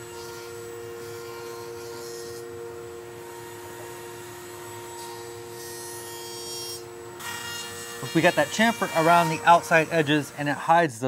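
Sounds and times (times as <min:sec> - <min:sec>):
shop machine humming: 0:00.0 - 0:11.0.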